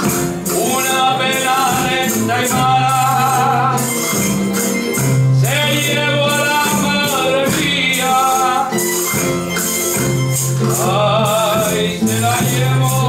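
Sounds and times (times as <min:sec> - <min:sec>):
bass notes: 0:00.0 - 0:13.0.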